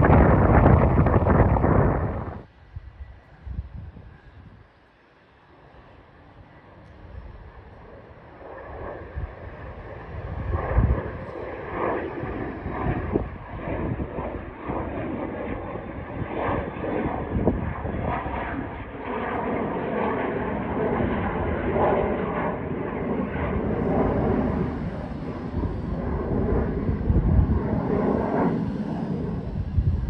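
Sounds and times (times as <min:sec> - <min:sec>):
jet engines climbing: 0:00.0 - 0:30.0.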